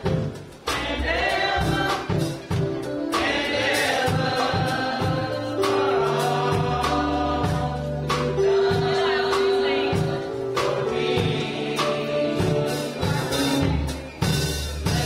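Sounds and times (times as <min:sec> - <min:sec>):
band with bass and drums: 0:00.0 - 0:15.0
choir singing gospel: 0:00.0 - 0:15.0.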